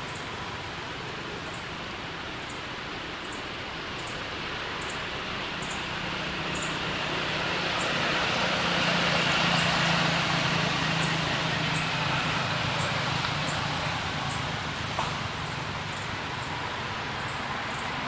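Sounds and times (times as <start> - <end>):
distant vehicle engine hum: 0.0 - 18.0
outdoor background noise: 0.0 - 18.0.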